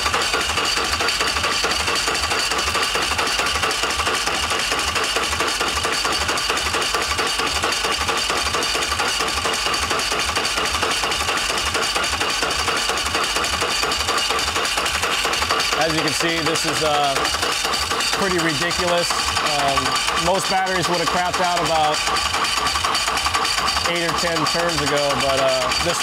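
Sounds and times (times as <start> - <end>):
motorcycle engine cranking: 0.0 - 26.0.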